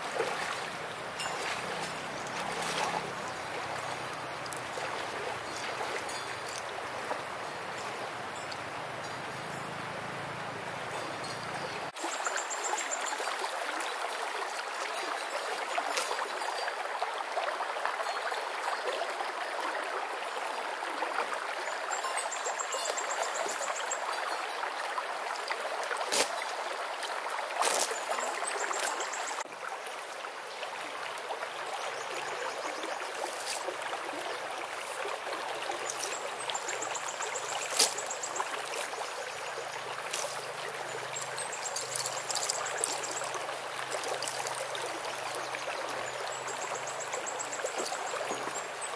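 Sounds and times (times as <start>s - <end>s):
creek water trickling: 0.0s - 48.9s.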